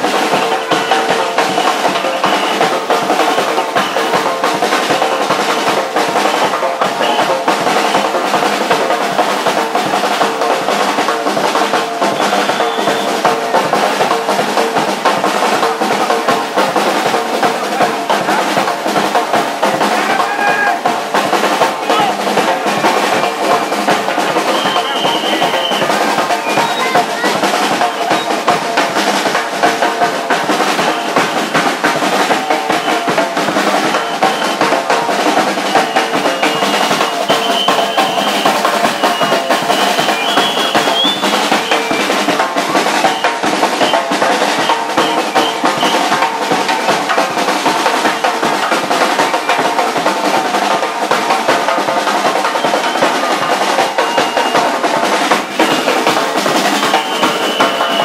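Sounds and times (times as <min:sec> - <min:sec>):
snare drums: 0:00.0 - 0:58.0.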